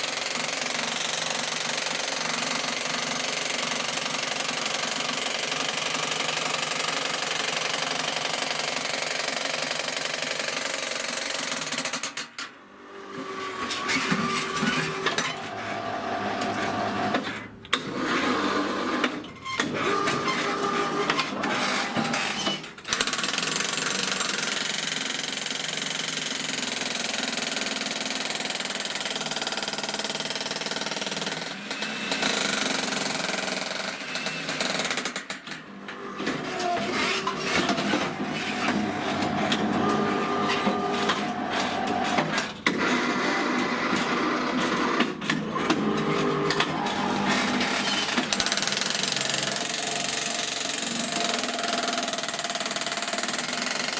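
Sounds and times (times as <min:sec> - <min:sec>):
jackhammer hammering: 0:00.0 - 0:12.4, 0:21.4 - 0:53.9.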